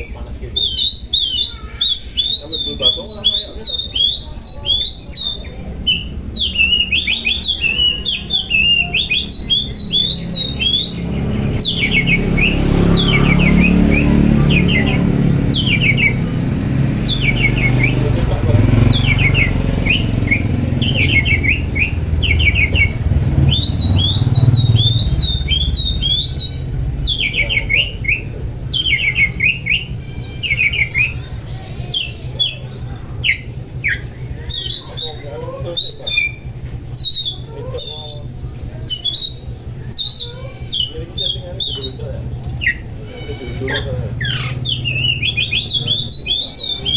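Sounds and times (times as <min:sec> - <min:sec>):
bird whistling song: 0:00.0 - 0:46.9
low engine rumble: 0:00.0 - 0:46.9.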